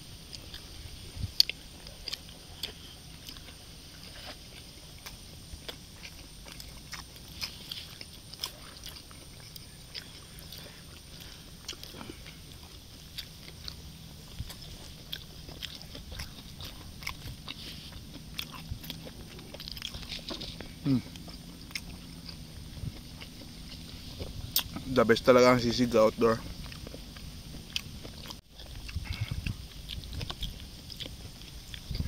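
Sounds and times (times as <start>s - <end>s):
people chewing crunchy food: 0.0s - 32.0s.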